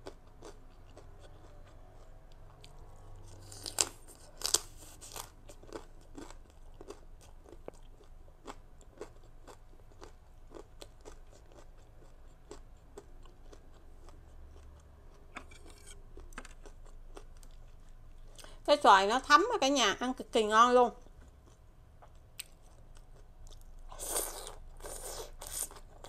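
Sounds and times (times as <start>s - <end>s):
chewing crunchy food: 0.0s - 18.6s, 21.0s - 26.0s.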